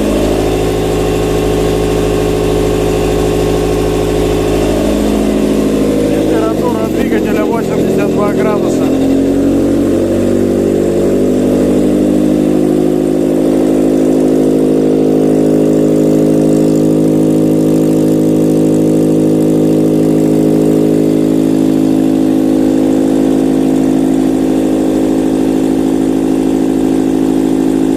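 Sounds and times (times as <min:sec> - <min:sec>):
petrol engine idling: 0:00.0 - 0:27.9.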